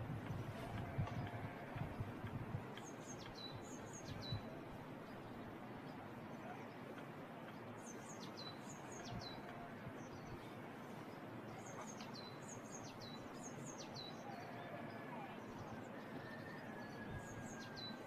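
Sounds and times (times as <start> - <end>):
small songbird singing: 2.7 - 18.0.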